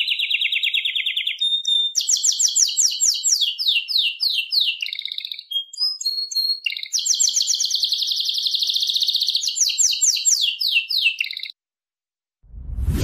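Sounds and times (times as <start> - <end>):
canary singing trills: 0.0 - 11.6.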